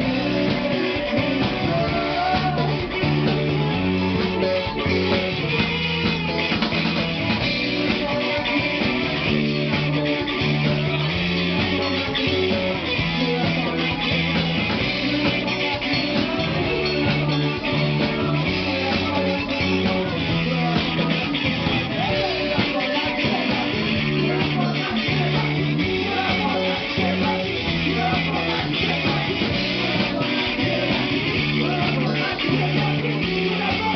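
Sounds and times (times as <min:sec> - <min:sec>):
bass line: 0:00.0 - 0:33.9
driving drum kit: 0:00.0 - 0:33.9
electric guitars: 0:00.0 - 0:33.9.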